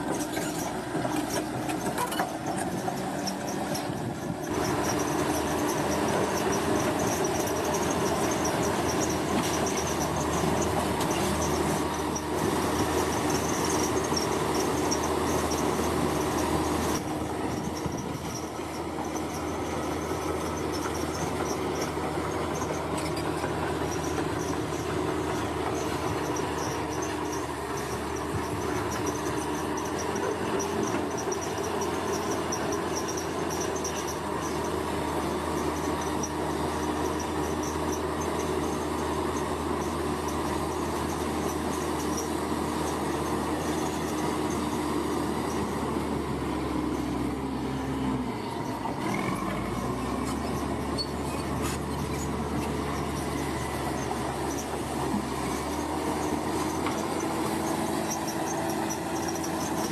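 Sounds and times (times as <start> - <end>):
diesel machinery rumbling: 0.0 - 59.9.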